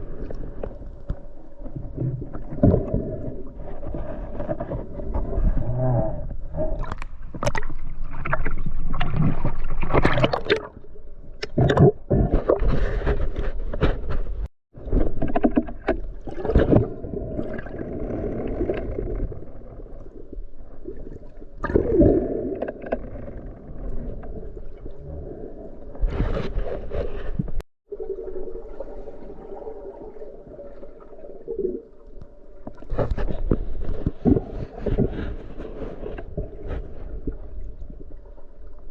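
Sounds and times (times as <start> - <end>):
muffled water sloshing and gurgling: 0.0 - 38.9.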